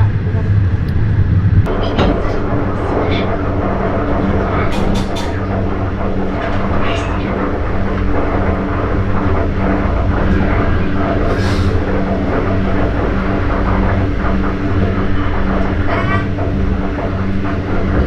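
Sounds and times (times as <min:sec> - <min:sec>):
pulsing hum: 0:00.0 - 0:18.0
train carriage rumble: 0:00.0 - 0:18.0.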